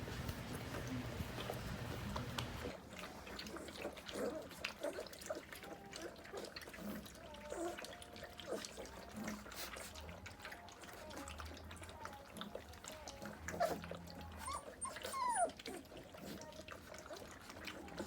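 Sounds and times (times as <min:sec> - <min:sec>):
puppies squeaking and whimpering: 0:00.4 - 0:18.0.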